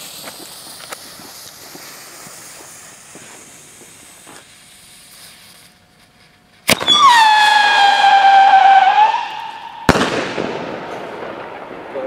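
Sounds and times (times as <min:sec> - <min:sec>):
firework fuse hissing and crackling: 0:00.0 - 0:12.0.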